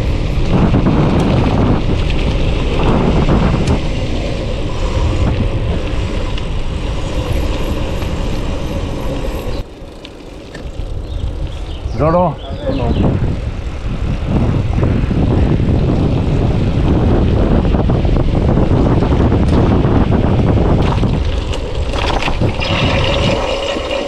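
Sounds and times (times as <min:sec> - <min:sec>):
wind noise on microphone: 0:00.0 - 0:09.7, 0:10.5 - 0:24.0
tyres rumbling over gravel: 0:00.0 - 0:12.4, 0:15.3 - 0:24.0.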